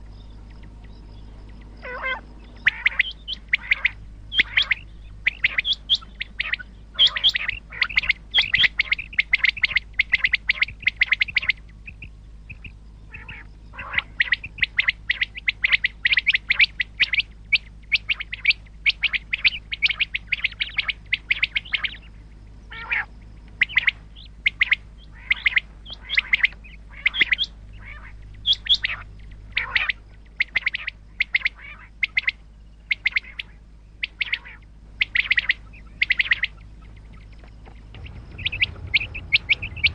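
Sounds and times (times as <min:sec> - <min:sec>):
faint steady hum: 0:00.0 - 0:39.9
quail chirping: 0:00.0 - 0:39.9.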